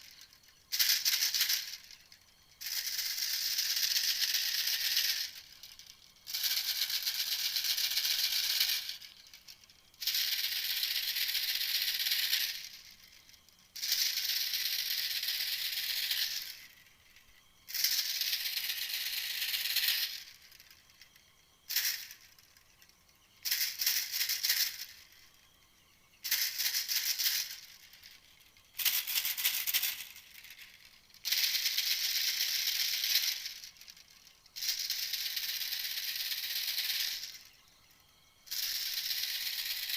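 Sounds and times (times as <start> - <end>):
recorded bird call rattle: 0.0 - 39.9.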